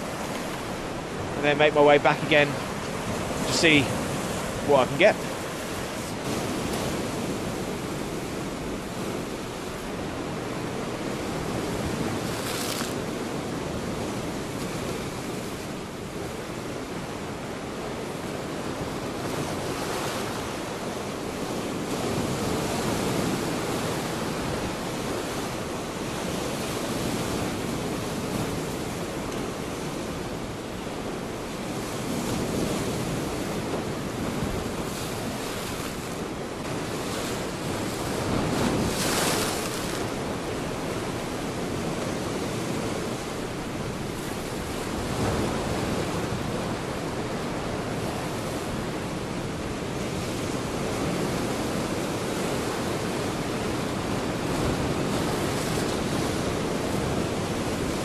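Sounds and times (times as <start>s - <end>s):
sea waves breaking on rocks: 0.0s - 58.0s
wind on microphone: 0.0s - 58.0s.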